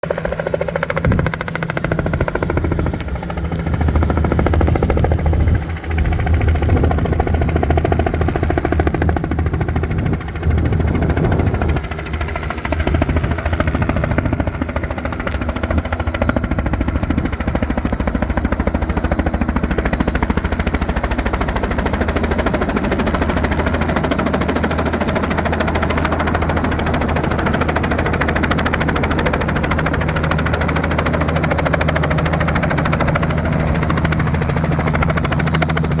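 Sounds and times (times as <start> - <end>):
helicopter rotor blades beating: 0.0 - 36.0
helicopter turbine drone: 0.0 - 36.0.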